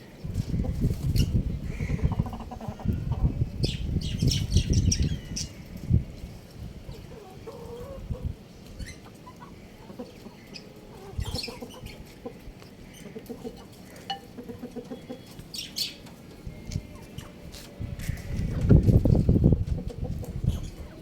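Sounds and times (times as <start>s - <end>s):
chickens clucking: 0.1s - 21.0s.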